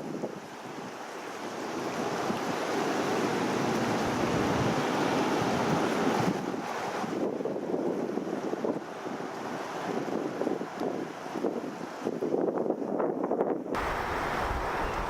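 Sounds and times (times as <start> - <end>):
water at the shore: 0.0 - 15.0
wind: 0.0 - 15.0.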